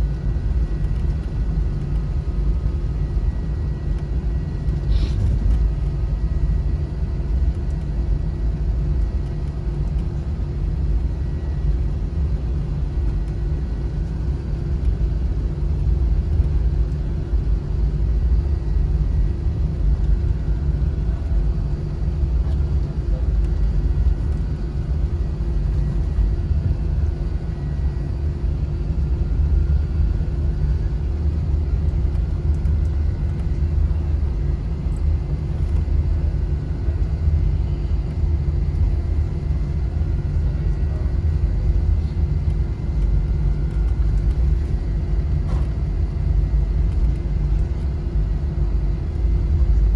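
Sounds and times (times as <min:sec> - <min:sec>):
jet engines and airflow rumble: 0:00.0 - 0:49.9.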